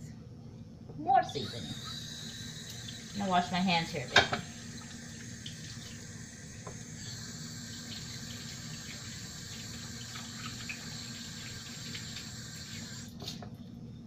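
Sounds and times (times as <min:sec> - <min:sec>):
faucet running: 0:01.2 - 0:13.2.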